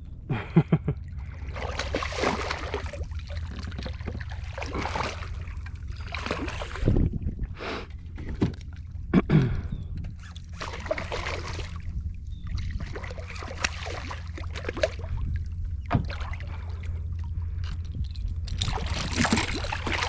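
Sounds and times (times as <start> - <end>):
steady low rumble: 0.0 - 20.0
water splashing beside kayak: 1.1 - 8.9, 10.2 - 17.8, 18.5 - 20.0.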